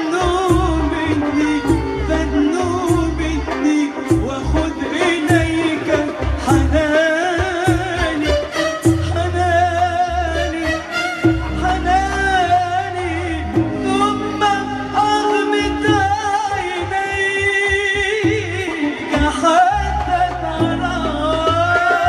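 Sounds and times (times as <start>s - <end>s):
instrumental accompaniment with bass: 0.0s - 22.0s.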